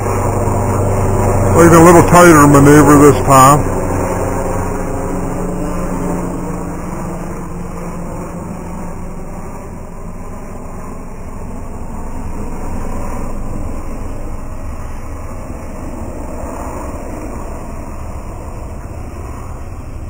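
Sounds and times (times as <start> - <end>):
helicopter rotor drone: 0.0 - 20.0.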